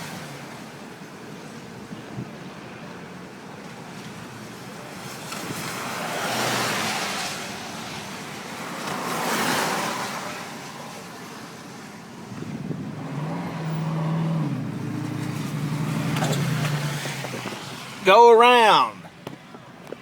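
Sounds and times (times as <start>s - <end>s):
vehicles passing on highway: 0.0s - 20.0s.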